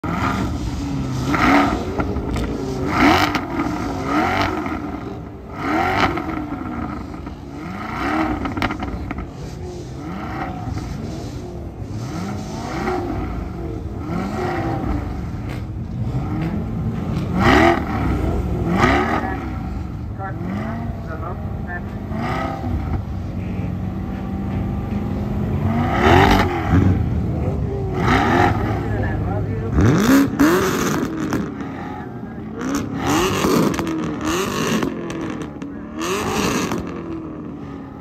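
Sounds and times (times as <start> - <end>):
many car engines revving: 0.0 - 38.0.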